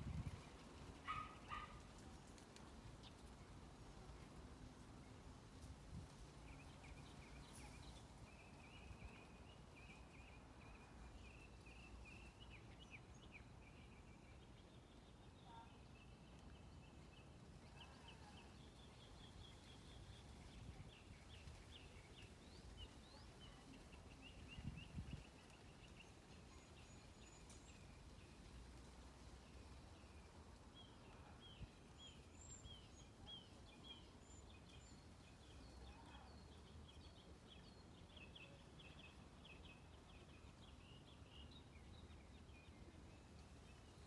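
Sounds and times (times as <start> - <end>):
songbirds chirping faintly: 0.0 - 44.0.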